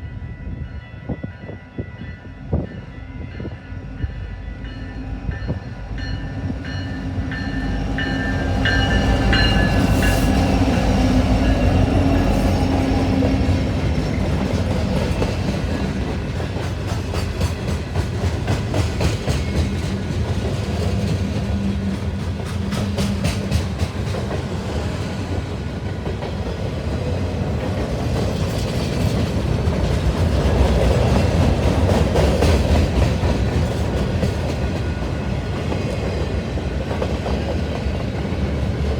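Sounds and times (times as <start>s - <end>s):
train engine rumble: 0.0s - 38.9s.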